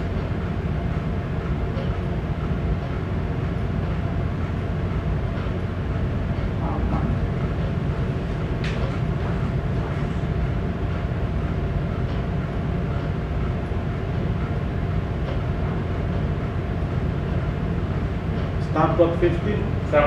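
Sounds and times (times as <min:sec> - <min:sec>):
ship engine low drone: 0:00.0 - 0:20.0.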